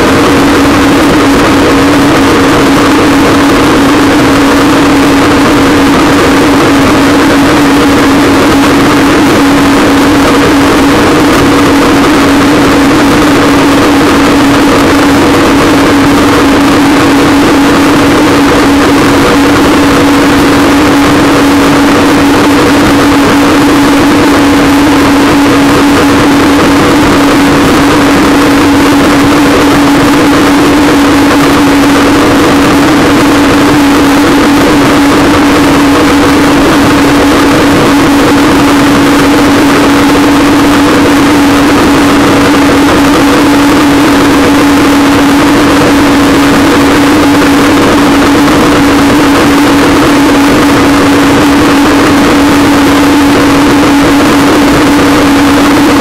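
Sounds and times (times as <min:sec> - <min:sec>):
watercraft engine humming: 0:00.0 - 0:56.0.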